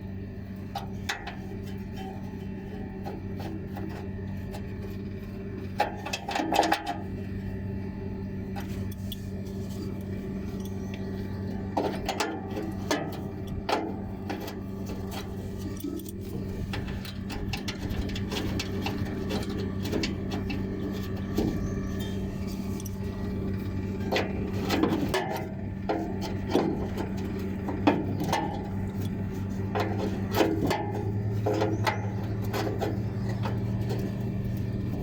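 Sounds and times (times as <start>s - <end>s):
electric fan motor humming: 0.0s - 35.0s.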